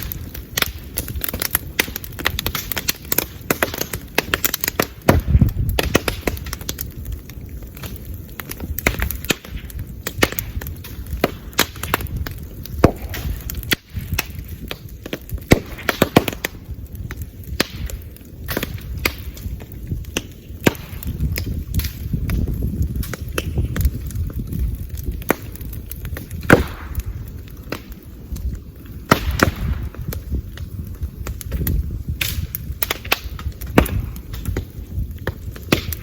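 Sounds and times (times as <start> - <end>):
bonfire crackling: 0.0 - 36.0
low fire rumble: 0.0 - 36.0.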